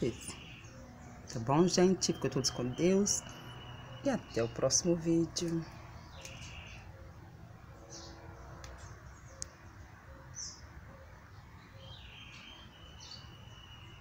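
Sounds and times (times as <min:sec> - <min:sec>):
high bird chirps: 0:00.0 - 0:07.2, 0:07.9 - 0:14.0.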